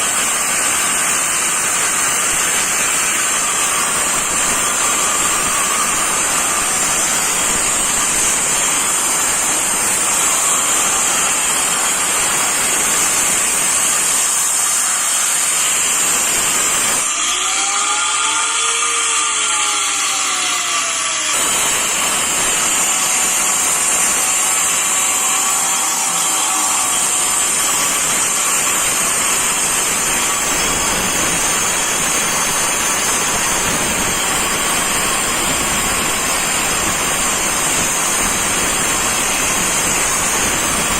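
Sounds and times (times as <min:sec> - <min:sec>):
angle grinder cutting wall: 0:00.0 - 0:40.9.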